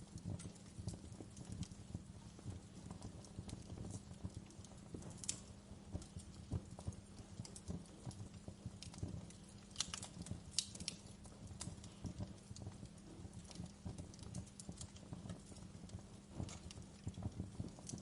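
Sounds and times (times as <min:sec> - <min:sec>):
sharp pops from fire: 0:00.0 - 0:18.0
wood fire crackling: 0:00.0 - 0:18.0.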